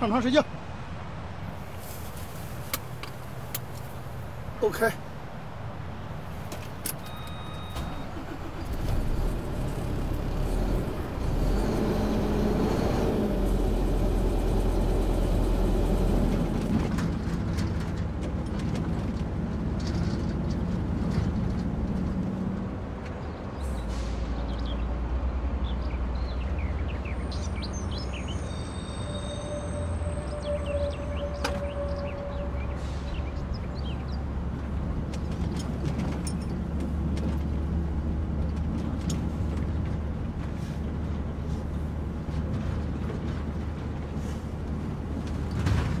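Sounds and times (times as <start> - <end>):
road noise inside cab: 0.1 - 23.8, 25.6 - 46.0
diesel truck engine: 2.9 - 24.8, 29.8 - 46.0.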